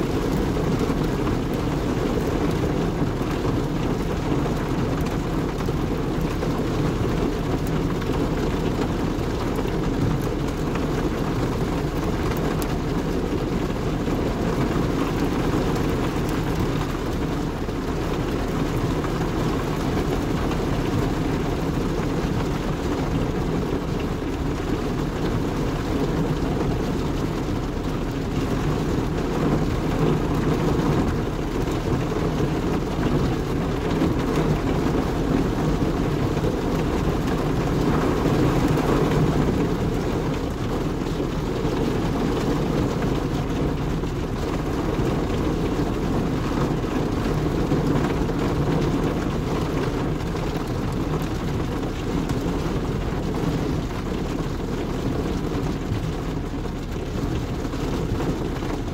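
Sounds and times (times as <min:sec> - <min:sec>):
deep continuous rumble: 0:00.0 - 0:58.9
heavy rain on car roof: 0:00.0 - 0:58.9.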